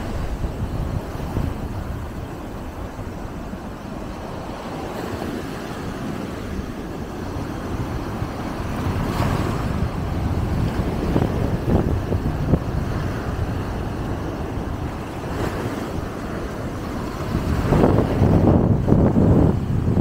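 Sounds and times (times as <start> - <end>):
small waves breaking on shore: 0.0 - 20.0
wind buffeting microphone: 0.0 - 20.0.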